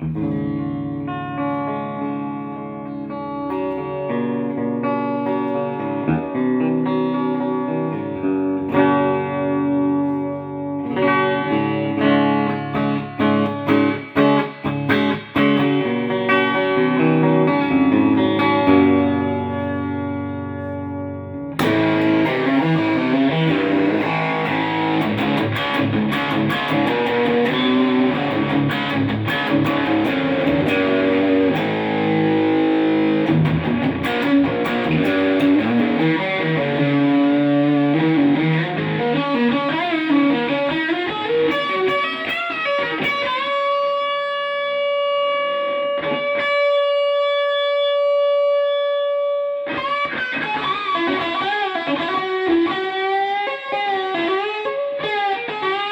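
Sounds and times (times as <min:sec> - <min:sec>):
electric guitar through amplifier: 0:00.0 - 0:55.9.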